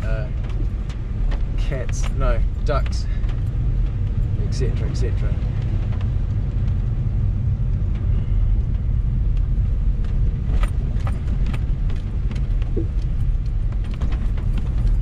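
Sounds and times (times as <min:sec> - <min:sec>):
engine and tyres rumbling: 0:00.0 - 0:15.0.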